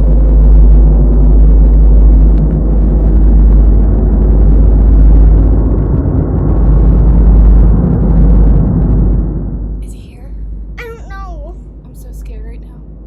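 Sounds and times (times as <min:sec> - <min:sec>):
deep steady rumble: 0:00.0 - 0:13.0
low droning hum: 0:00.0 - 0:13.0.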